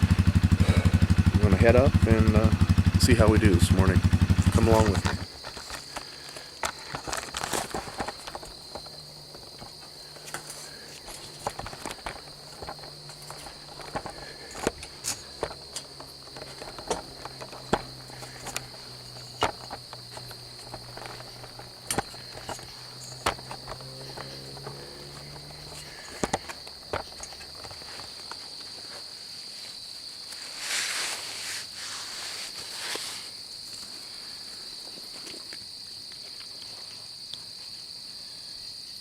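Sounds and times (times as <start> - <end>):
insects droning: 0.0 - 39.0
crunching footsteps: 3.0 - 37.1.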